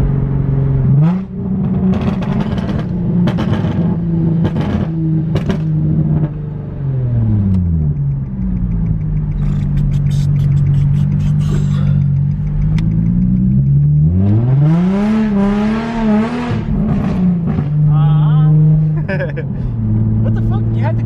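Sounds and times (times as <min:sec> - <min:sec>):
car engine and exhaust: 0:00.0 - 0:21.0.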